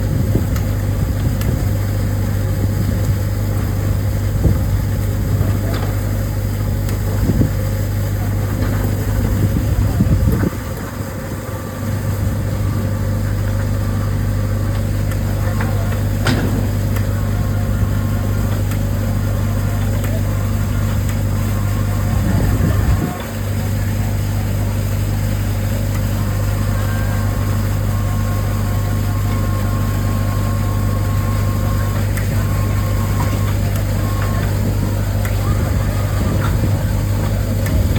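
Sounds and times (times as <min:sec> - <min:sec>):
ship machinery humming: 0:00.0 - 0:37.9.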